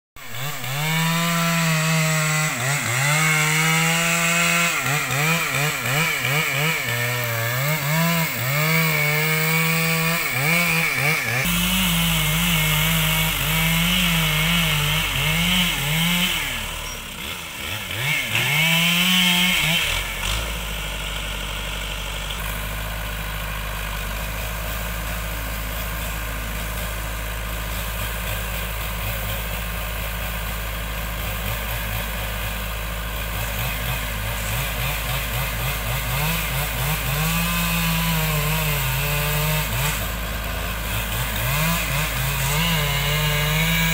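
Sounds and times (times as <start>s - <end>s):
diesel engine idling: 0.2s - 18.1s, 19.9s - 43.9s
chainsaw cutting wood: 0.2s - 43.9s.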